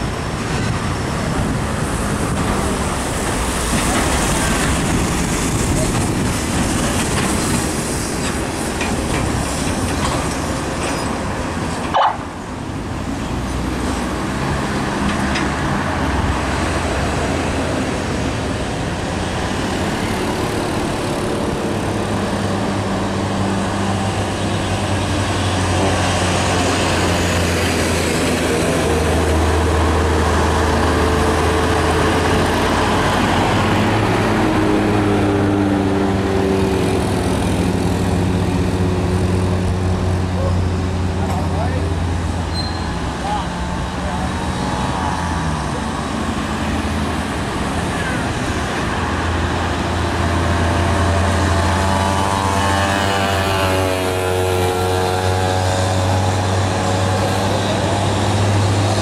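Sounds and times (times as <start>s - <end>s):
heavy diesel truck engines: 0.0s - 59.0s.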